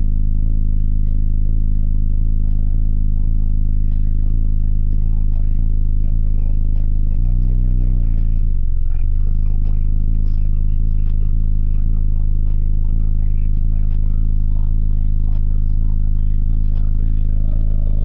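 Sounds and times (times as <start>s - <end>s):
deep bass note from subwoofers: 0.0s - 18.0s.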